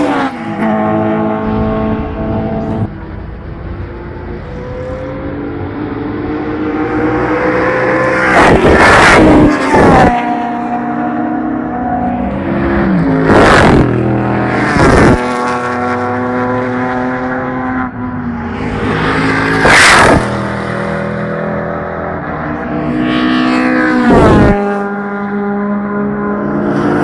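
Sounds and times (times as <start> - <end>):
racing cars passing at full speed: 0.0 - 27.0.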